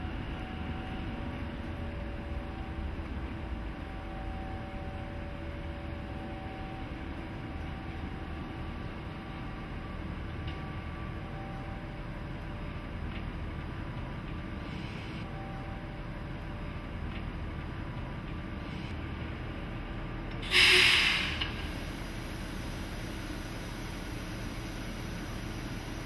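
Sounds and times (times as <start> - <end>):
electric locomotive hum: 0.0 - 26.0.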